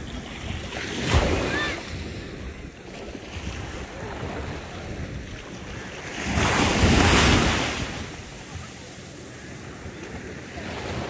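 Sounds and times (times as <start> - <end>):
small waves washing on shore: 0.0 - 11.0
wind buffeting microphone: 0.0 - 11.0.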